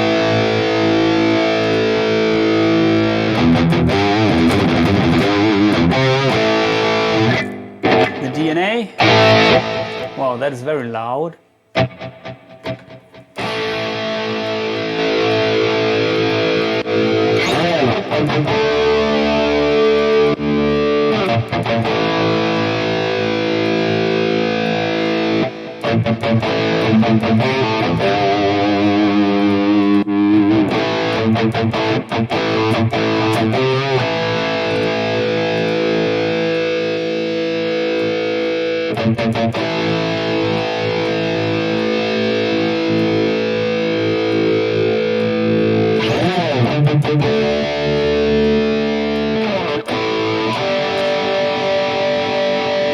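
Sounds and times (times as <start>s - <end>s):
bent guitar lead phrase: 0.0s - 52.9s
distorted electric guitar chords: 0.0s - 52.9s.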